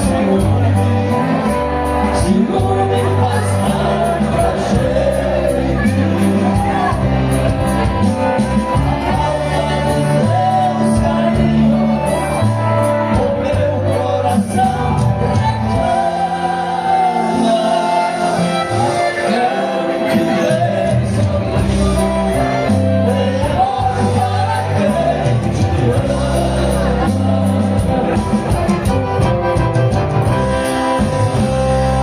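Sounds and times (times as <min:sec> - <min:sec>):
person singing: 0:00.0 - 0:07.5, 0:08.2 - 0:29.0
stepping bass line: 0:00.0 - 0:19.1, 0:20.1 - 0:32.0
live band with accordion: 0:00.0 - 0:32.0.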